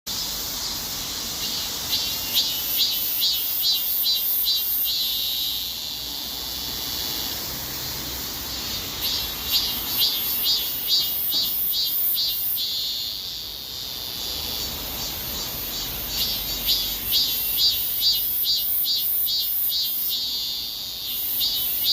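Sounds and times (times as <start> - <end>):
cicada singing: 0.1 - 21.9.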